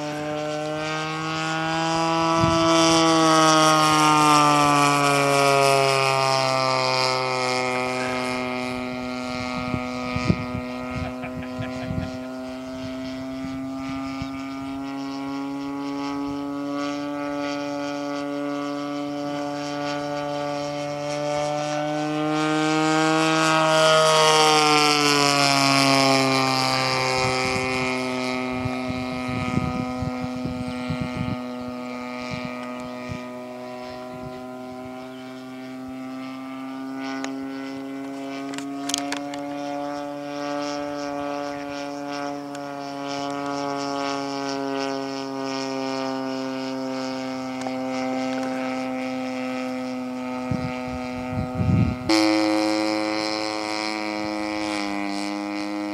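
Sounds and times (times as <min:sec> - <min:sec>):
model plane engine drone: 0:00.0 - 0:55.9.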